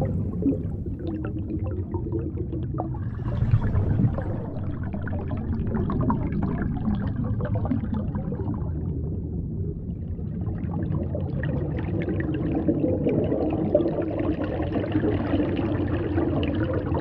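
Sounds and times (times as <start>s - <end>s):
low underwater rumble: 0.0s - 16.9s
small bubbling and crackling: 0.0s - 17.0s.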